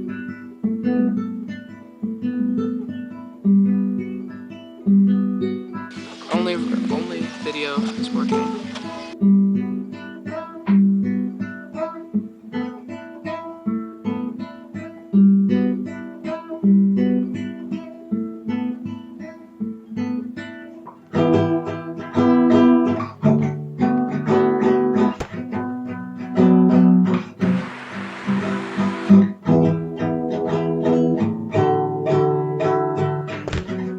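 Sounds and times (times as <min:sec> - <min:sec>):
acoustic guitar music: 0:00.0 - 0:33.9.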